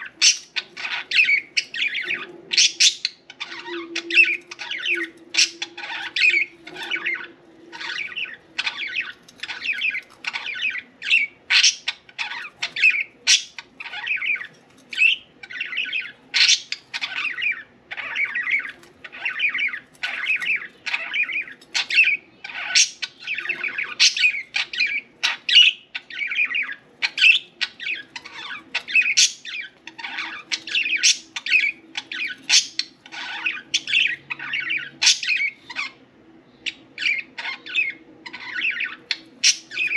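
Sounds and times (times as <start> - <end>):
budgerigars chattering: 0.0 - 36.0, 36.6 - 39.9.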